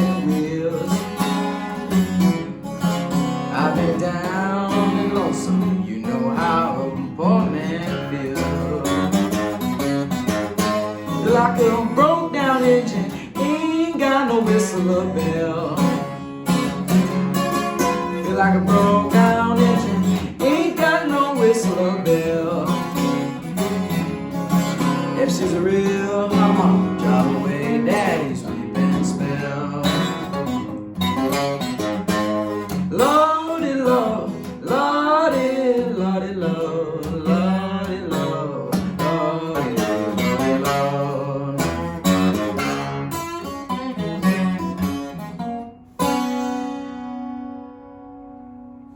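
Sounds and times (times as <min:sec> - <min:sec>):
acoustic guitar playing blues: 0:00.0 - 0:48.9.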